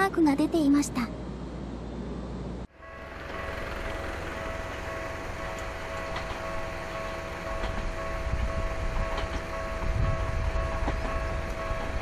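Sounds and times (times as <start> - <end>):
train low rumble: 0.0 - 12.0
electric train whine: 1.2 - 12.0.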